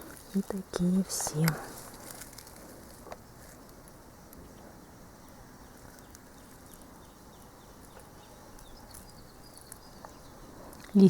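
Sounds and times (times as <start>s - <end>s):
faint outdoor ambience: 0.0s - 11.0s
insect chirping: 0.0s - 11.0s.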